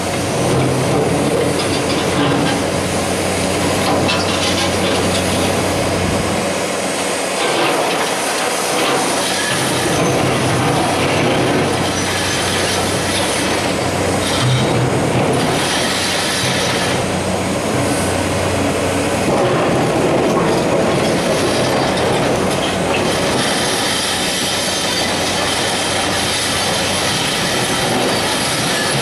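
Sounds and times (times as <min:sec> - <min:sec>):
excavator diesel engine under load: 0:00.0 - 0:29.0.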